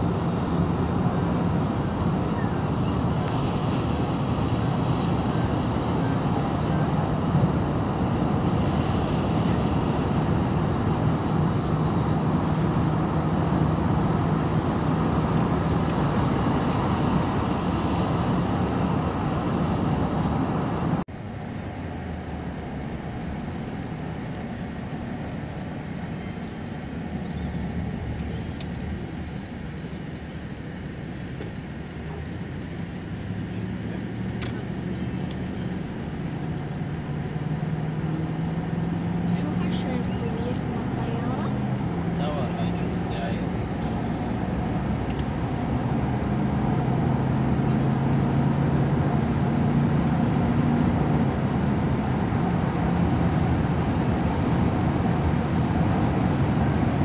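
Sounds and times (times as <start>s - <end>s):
car road noise at speed: 0.0s - 57.0s
passing traffic: 0.0s - 57.0s.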